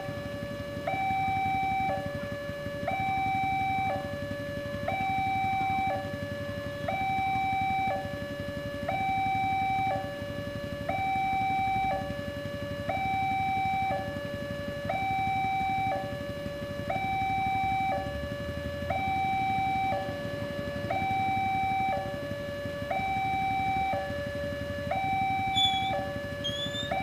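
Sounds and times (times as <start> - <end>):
level crossing two-tone alarm: 0.0 - 27.0.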